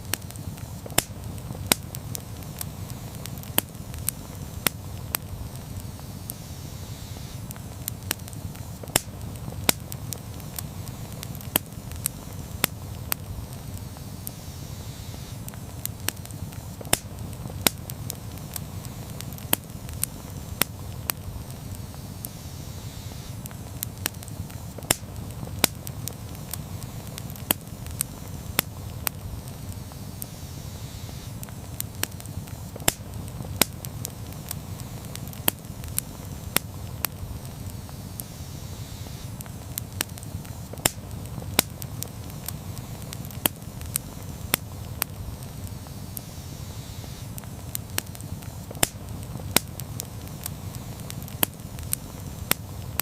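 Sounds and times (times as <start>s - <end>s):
low rumble of flames: 0.0s - 53.0s
wood crackling and popping: 0.0s - 53.0s.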